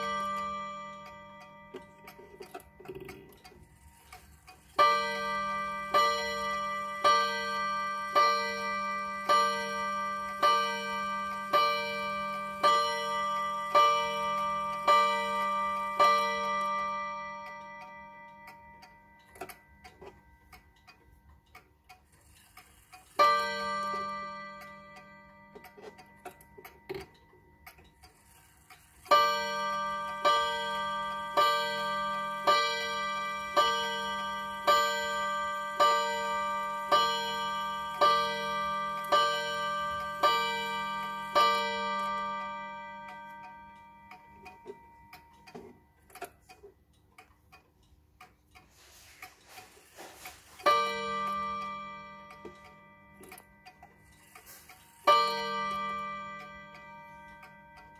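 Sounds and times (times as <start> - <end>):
clock gong striking: 0.0 - 4.0, 4.6 - 20.4, 23.2 - 27.3, 29.1 - 45.8, 48.9 - 57.9
pendulum clock ticking: 0.0 - 57.9.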